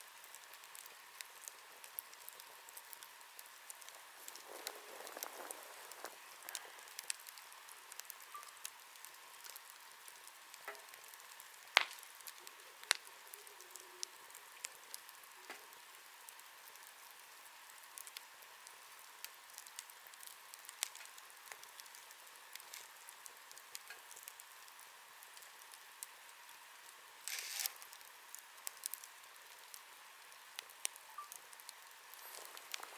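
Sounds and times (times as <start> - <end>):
campfire crackling: 0.0 - 32.9.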